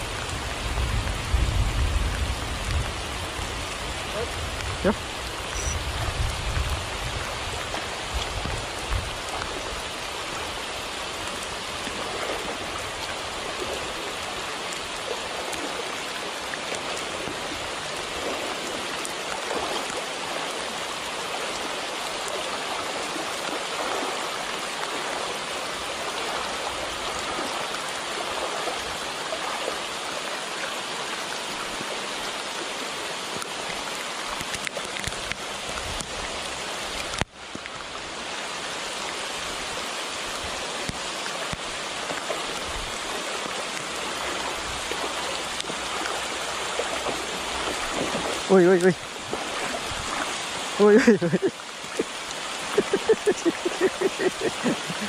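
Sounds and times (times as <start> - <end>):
flowing water rushing: 0.0 - 55.0
heavy rain on a river: 0.0 - 55.0.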